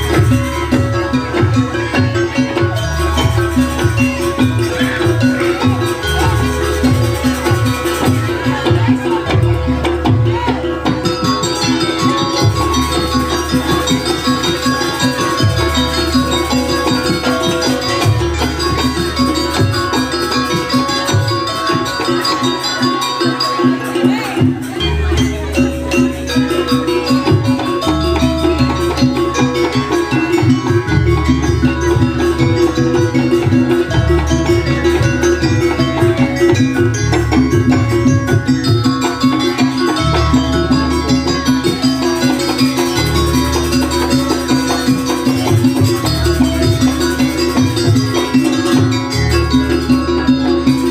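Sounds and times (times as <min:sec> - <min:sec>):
drums: 0:00.0 - 0:50.9
tuned metal percussion: 0:00.0 - 0:50.9.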